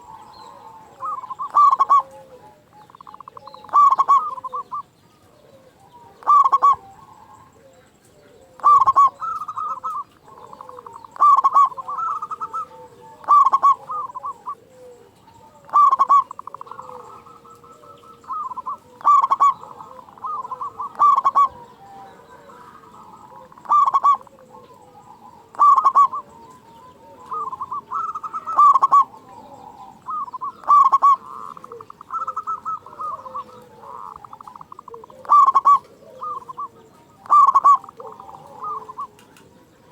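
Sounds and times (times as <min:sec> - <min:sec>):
dove cooing: 0:00.0 - 0:39.9
fainter dove calls: 0:00.0 - 0:39.9.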